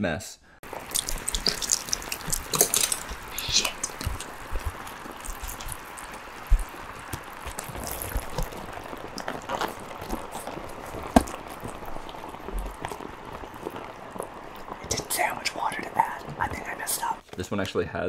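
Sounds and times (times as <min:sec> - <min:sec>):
water bubbling and hissing: 0:00.6 - 0:17.2.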